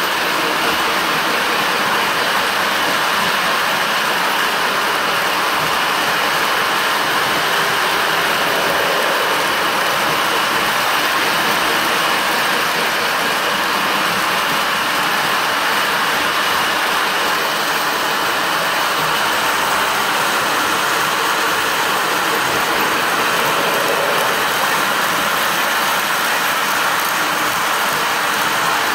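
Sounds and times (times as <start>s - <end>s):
toy trains whirring on rails: 0.0s - 28.9s.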